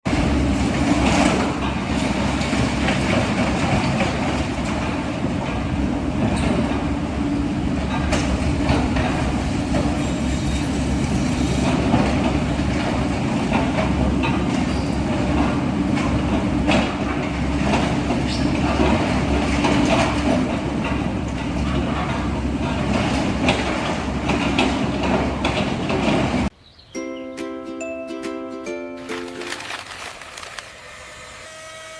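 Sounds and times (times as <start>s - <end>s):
machinery rattling and clanking: 0.1s - 26.5s, 29.0s - 30.9s.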